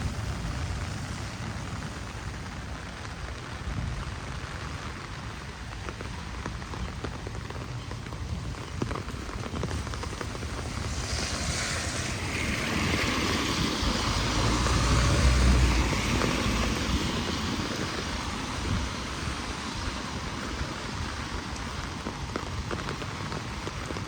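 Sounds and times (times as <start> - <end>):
heavy rain: 0.0 - 24.0
vehicle passing on wet street: 0.0 - 24.0.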